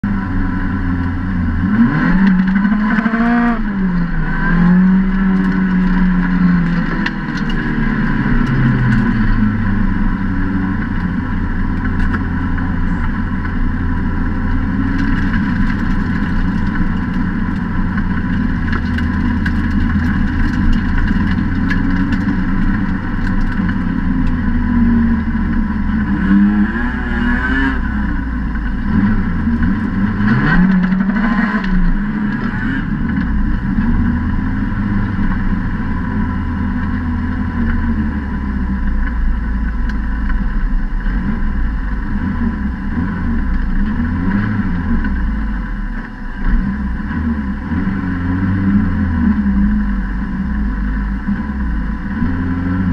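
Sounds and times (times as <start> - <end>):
racing car engine revving: 0.0 - 39.2, 39.8 - 52.9.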